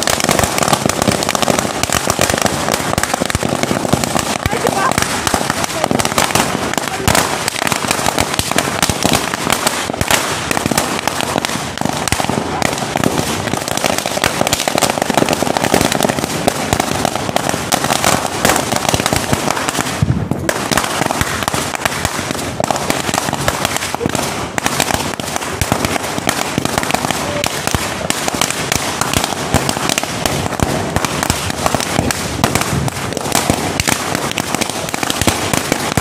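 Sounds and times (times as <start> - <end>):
firecrackers banging and crackling: 0.0 - 36.0.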